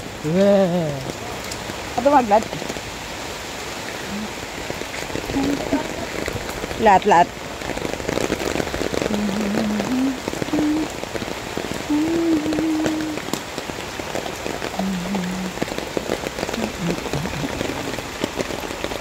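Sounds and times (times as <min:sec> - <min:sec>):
rain falling on leaves: 0:00.0 - 0:19.0.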